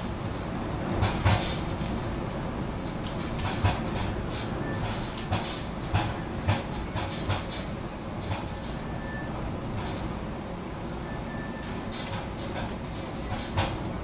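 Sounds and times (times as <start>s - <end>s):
surf and wind roaring: 0.0s - 14.0s.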